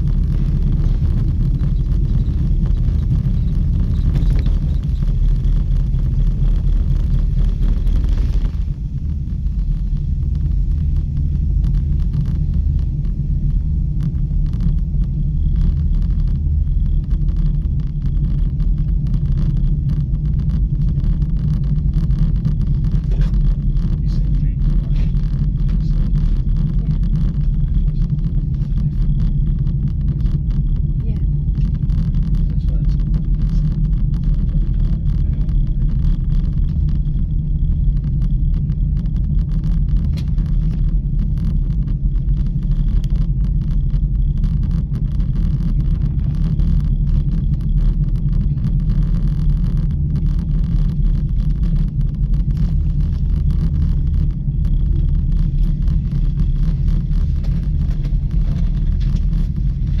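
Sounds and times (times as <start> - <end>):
gondola cabin rumbling: 0.0 - 60.0.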